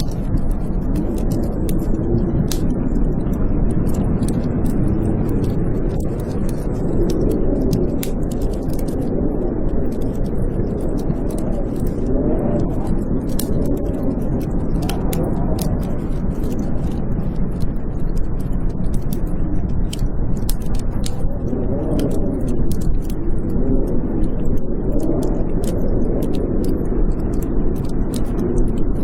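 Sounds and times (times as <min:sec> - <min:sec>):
blizzard wind howling: 0:00.0 - 0:29.0
wood fire crackling: 0:00.0 - 0:29.0.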